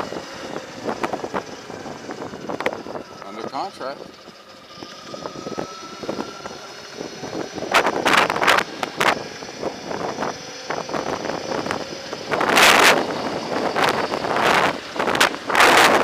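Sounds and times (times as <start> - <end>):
electric motor whine: 0.0 - 16.0
wind buffeting microphone: 0.0 - 16.0.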